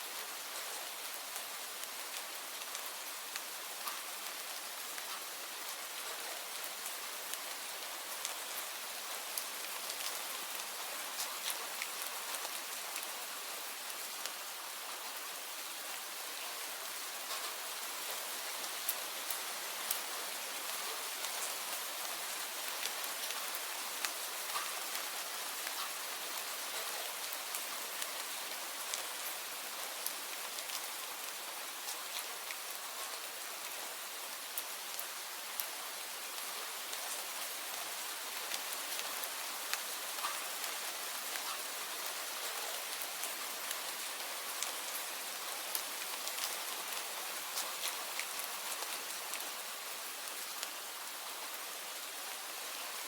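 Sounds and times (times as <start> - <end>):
raindrops patterings on a surface: 0.0 - 53.0
steady rain: 0.0 - 53.0.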